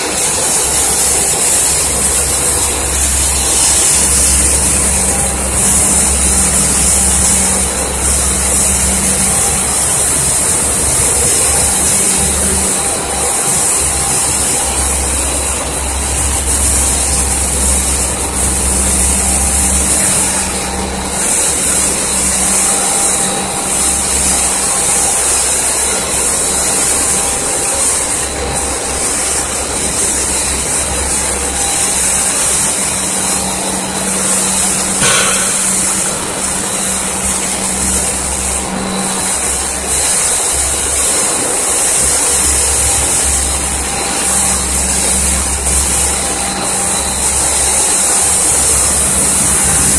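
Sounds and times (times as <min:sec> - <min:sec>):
machinery whirring and hissing: 0:00.0 - 0:49.9.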